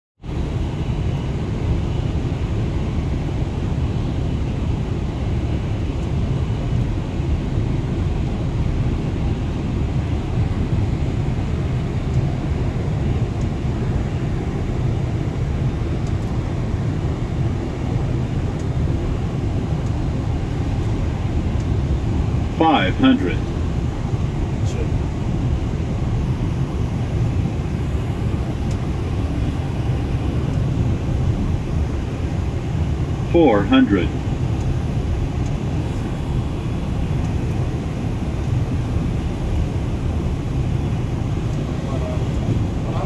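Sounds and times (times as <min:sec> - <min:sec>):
rumble of airflow and engines: 0:00.2 - 0:43.0.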